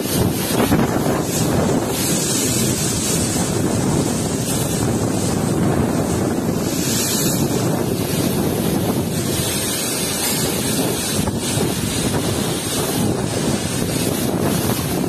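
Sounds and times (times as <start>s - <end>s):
strong wind gusting: 0.0s - 15.0s
trees thrashing in wind: 0.0s - 15.0s.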